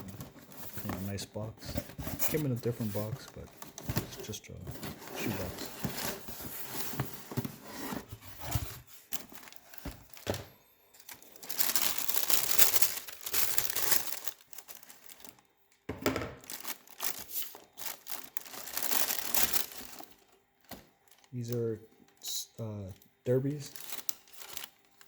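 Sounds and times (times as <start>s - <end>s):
wrapping crinkling and rustling: 0.0s - 15.6s, 16.4s - 25.0s.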